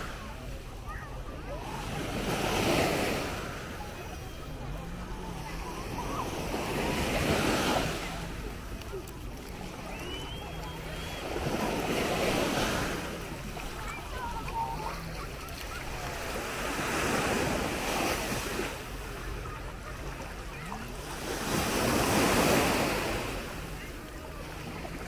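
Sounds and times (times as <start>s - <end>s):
small waves breaking on shore: 0.0s - 25.0s.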